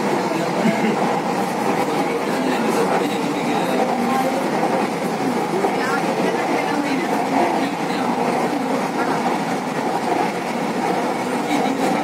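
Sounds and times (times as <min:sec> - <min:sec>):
train rolling on track: 0:00.0 - 0:12.0.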